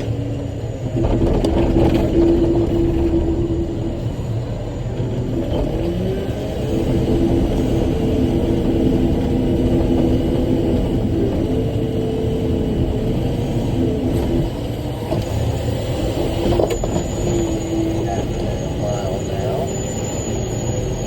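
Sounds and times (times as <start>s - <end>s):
diesel truck engine under load: 0.0s - 21.0s.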